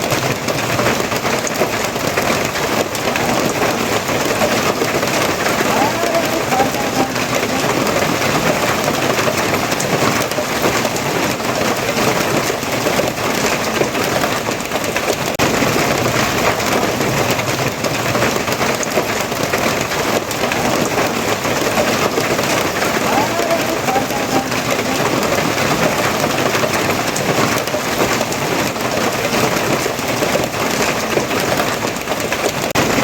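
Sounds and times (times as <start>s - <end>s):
steady rain pattering: 0.0s - 33.0s.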